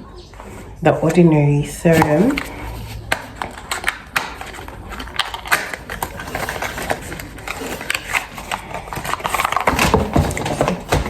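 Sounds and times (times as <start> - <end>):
packaging clicks and crinkles: 1.8 - 11.0.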